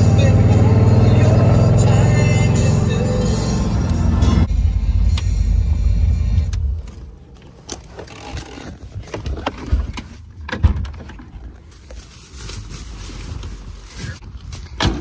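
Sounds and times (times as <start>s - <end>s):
car engine rumbling: 0.0s - 14.5s.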